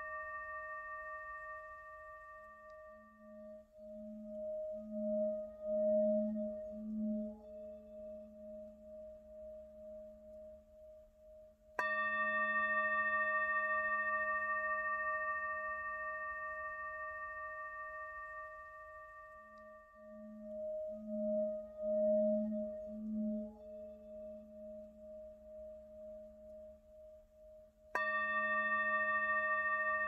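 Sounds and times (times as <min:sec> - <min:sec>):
singing bowl humming: 0:00.0 - 0:30.0.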